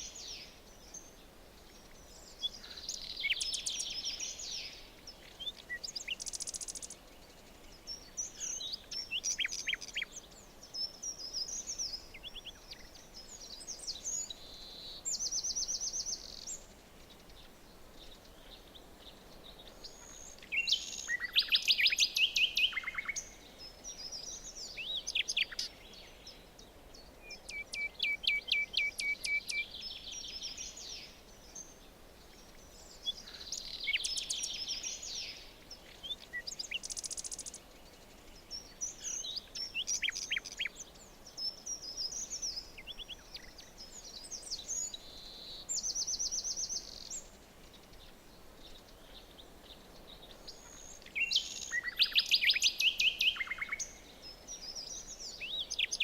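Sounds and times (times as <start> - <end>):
faint background hiss: 0.0 - 56.0
songbirds singing: 0.0 - 56.0.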